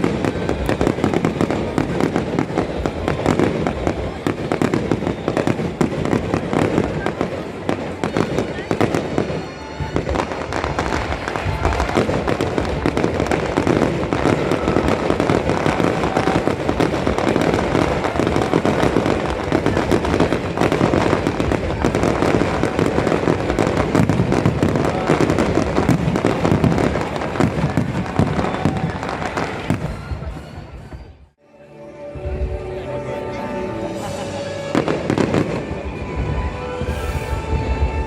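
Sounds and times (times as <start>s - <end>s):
fireworks bangs and crackling: 0.0s - 31.3s, 33.9s - 38.0s.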